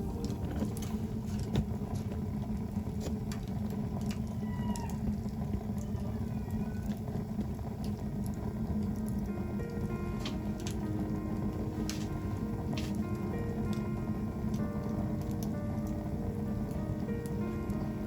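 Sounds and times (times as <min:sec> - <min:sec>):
bonfire flames rushing: 0:00.0 - 0:18.0
burning wood crackling: 0:00.0 - 0:18.0.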